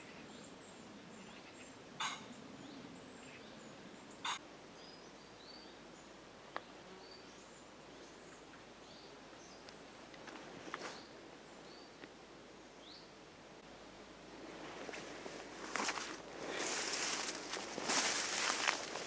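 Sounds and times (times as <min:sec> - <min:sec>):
small birds chirping: 0:00.0 - 0:13.2, 0:16.4 - 0:19.0.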